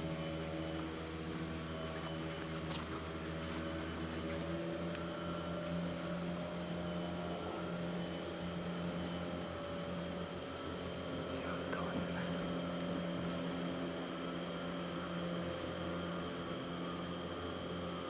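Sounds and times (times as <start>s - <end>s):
droning hum with low tones: 0.0s - 18.0s
high-pitched hiss: 0.0s - 18.0s.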